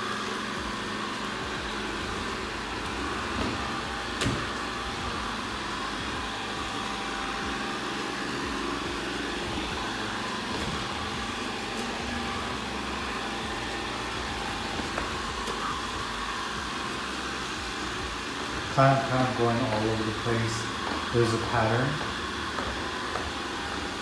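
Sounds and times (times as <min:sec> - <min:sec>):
robot vacuum running: 0:00.0 - 0:24.0.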